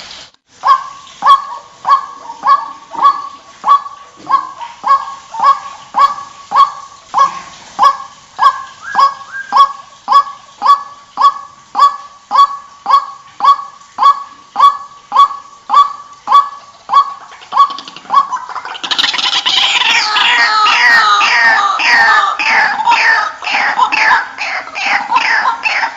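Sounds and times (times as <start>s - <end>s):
bird calling kwak: 0.6s - 25.9s.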